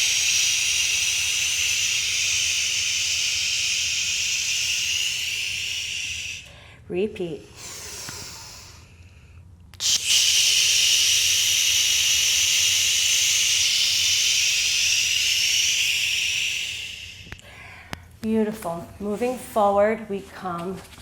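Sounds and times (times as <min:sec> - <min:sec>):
person breathing in and out: 0:00.0 - 0:18.2.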